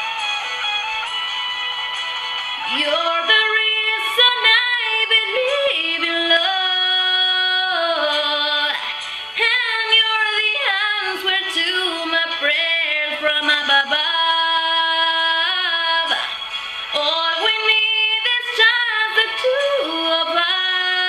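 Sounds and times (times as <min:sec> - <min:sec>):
music: 0:00.0 - 0:21.0
woman singing wordless melody: 0:02.6 - 0:21.0.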